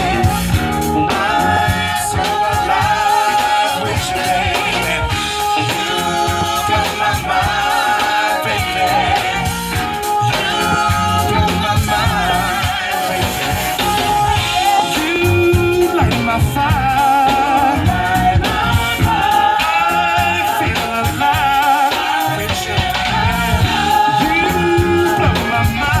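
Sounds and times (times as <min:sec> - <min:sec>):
live soul band playing: 0:00.0 - 0:26.0.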